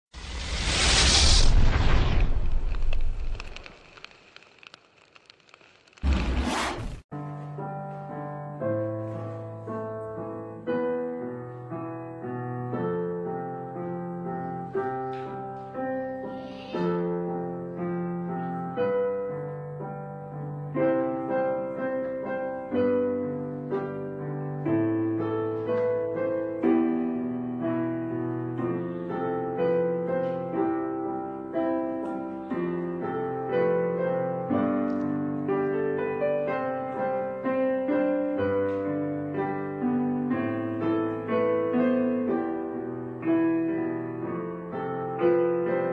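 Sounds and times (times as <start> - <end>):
slow piano chords: 7.1 - 45.9.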